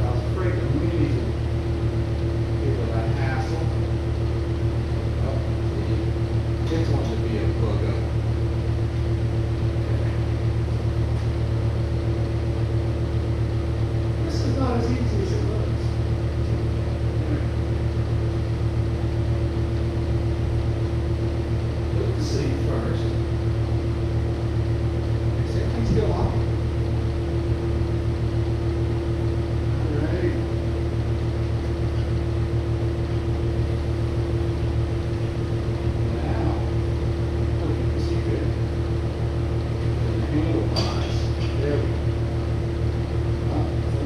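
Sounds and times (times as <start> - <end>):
constant tone: 0.0 - 44.0
low machine hum: 0.0 - 44.0.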